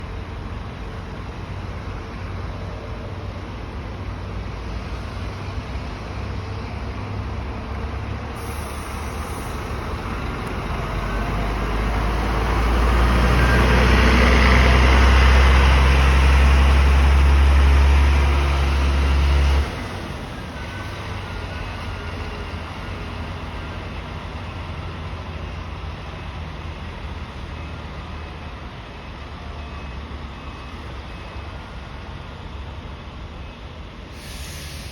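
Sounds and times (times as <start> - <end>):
coach diesel engine under load: 0.0 - 34.9
road traffic noise: 0.0 - 34.9.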